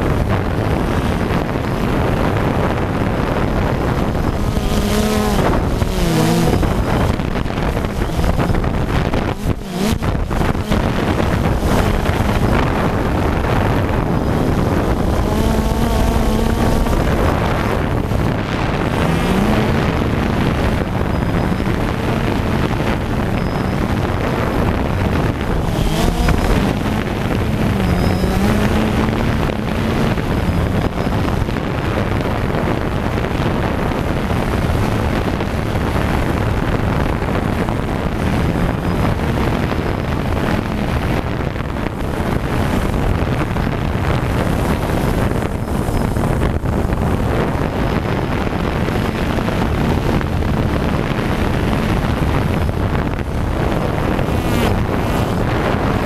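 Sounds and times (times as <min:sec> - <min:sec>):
drone motors and propellers humming: 0:00.0 - 0:56.0
wind rushing over microphone: 0:00.0 - 0:56.0.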